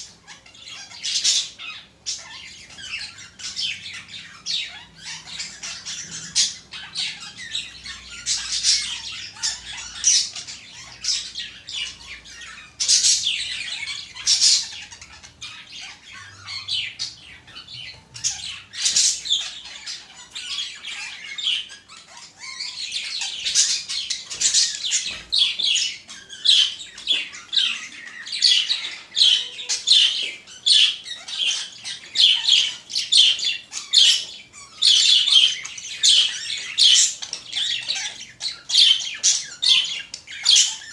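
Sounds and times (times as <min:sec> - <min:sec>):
budgerigars chirping and squawking: 0:00.0 - 0:40.9.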